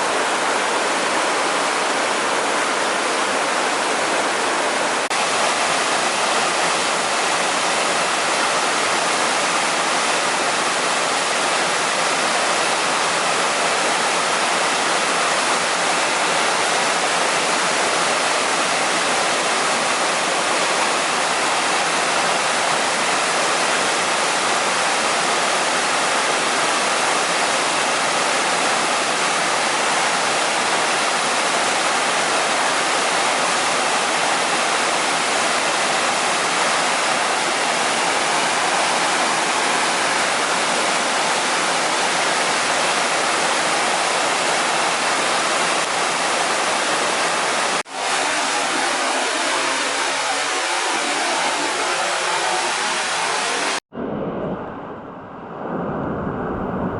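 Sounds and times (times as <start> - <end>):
mountain stream rushing: 0.0 - 53.8.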